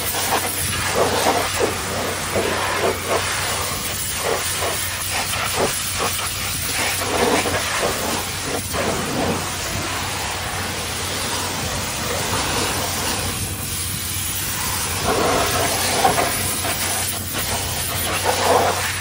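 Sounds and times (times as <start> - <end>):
pressure washer jet hissing: 0.0 - 19.0.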